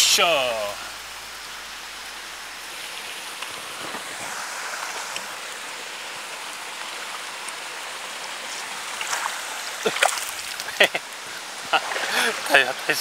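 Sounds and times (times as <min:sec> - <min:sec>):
stream water over stones: 0:00.0 - 0:13.0.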